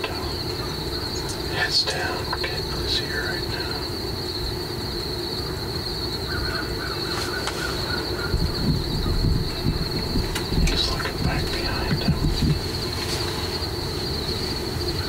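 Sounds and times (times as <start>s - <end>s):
faint bird calls: 0.0s - 15.0s
insects trilling: 0.0s - 15.0s.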